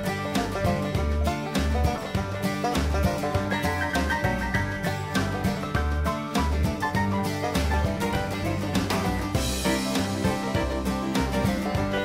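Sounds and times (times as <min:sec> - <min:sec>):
upbeat country music: 0:00.0 - 0:12.0.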